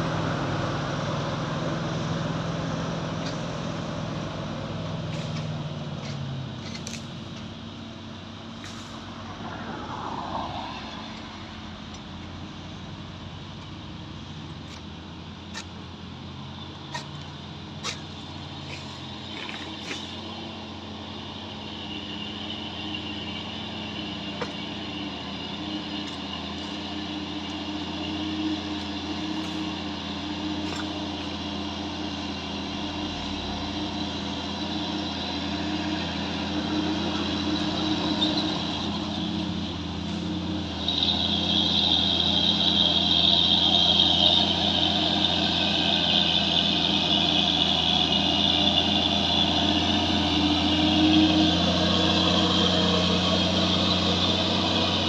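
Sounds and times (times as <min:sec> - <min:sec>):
heavy truck diesel engine: 0:00.0 - 0:55.0
loud high whine: 0:07.2 - 0:55.0.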